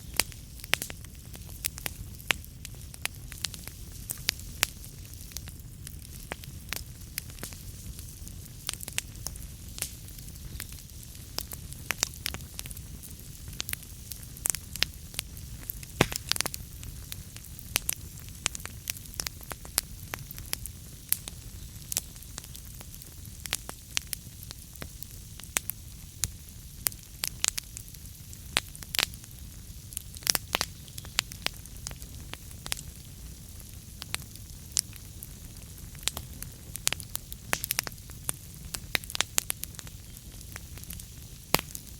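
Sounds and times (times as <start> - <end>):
burning logs crackling and popping: 0.0 - 41.9
wood fire burning: 0.0 - 41.9.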